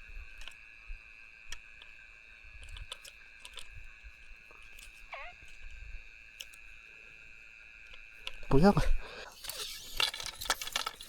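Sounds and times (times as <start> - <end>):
night insect chorus: 0.0 - 11.0.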